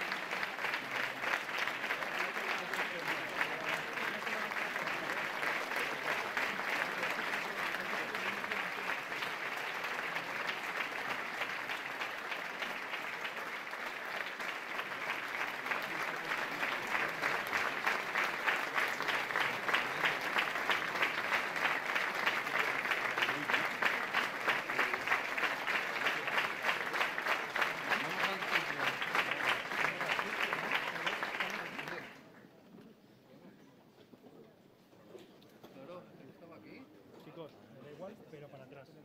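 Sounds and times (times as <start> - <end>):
audience applauding: 0.0 - 32.2.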